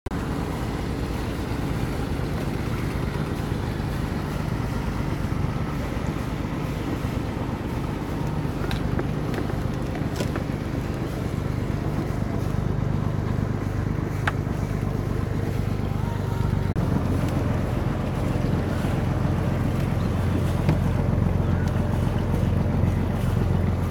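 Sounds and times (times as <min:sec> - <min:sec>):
boat engine droning: 0:00.0 - 0:23.9
water rushing past hull: 0:00.1 - 0:23.9.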